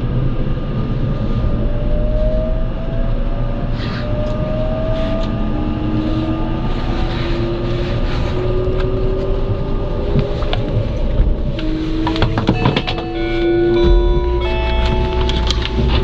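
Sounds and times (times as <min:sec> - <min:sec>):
traction motor whine: 0:00.0 - 0:16.0
train wheels rumbling on rails: 0:00.0 - 0:16.0.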